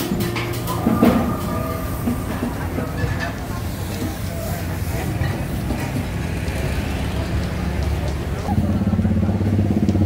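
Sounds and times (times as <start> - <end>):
engine hum: 0.0 - 10.0
traffic noise: 0.0 - 10.0
vehicle engine running: 0.0 - 10.0.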